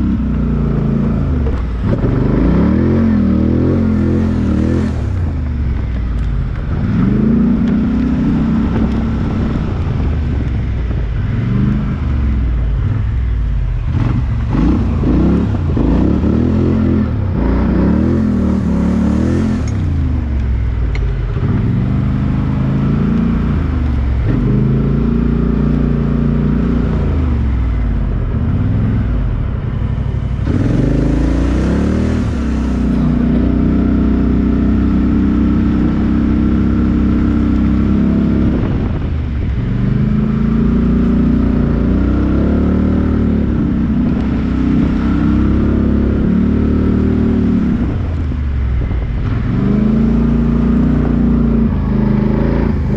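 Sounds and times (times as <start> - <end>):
off-road vehicle engine revving: 0.0 - 52.9.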